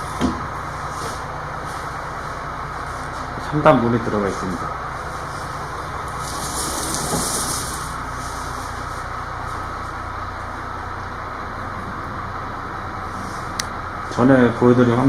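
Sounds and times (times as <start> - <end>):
crane engine low drone: 0.0 - 15.0.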